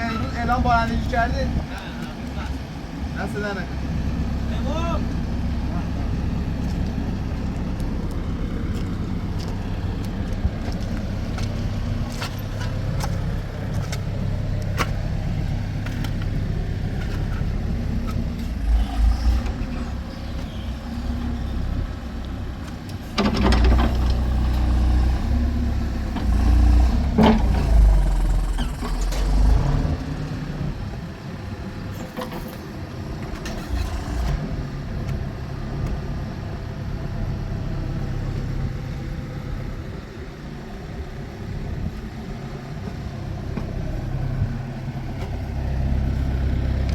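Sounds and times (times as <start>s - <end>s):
vehicle engine and road rumble: 0.0s - 46.9s.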